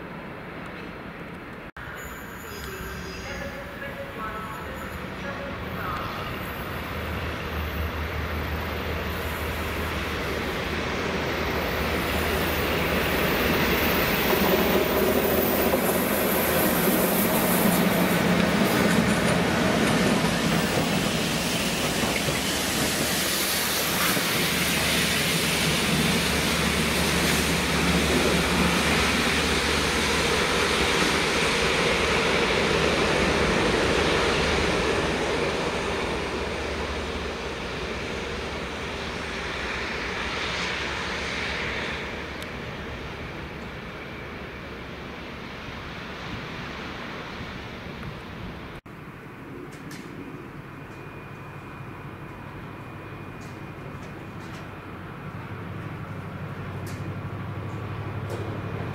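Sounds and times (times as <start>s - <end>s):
diesel locomotive engine drone: 0.0s - 58.9s
train wheels rumbling on track: 0.1s - 58.9s.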